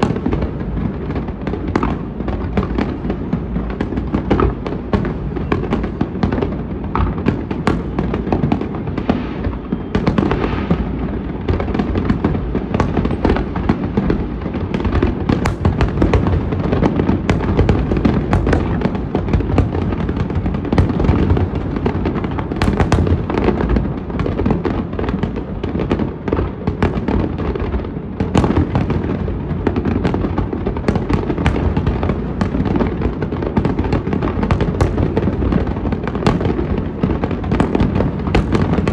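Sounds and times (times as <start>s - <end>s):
fireworks booming and cracking: 0.0s - 38.9s.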